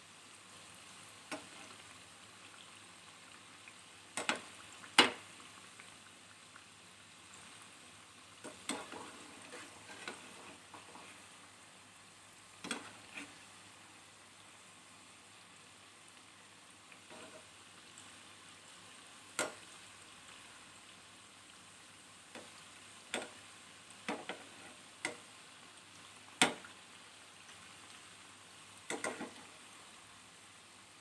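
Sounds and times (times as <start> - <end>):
oil sizzling in a pan: 0.0 - 31.0.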